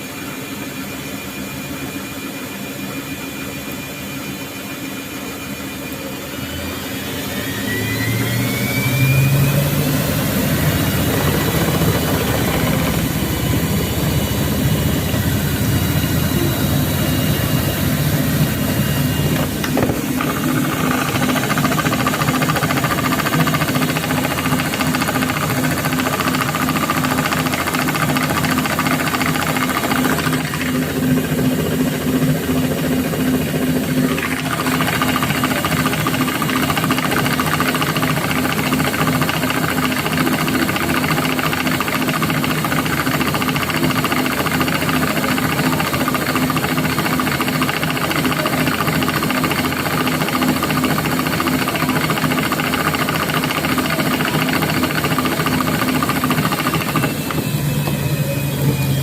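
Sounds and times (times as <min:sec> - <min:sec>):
washing machine motor hum: 0:00.0 - 0:59.0
washing machine whirring: 0:00.0 - 0:59.0.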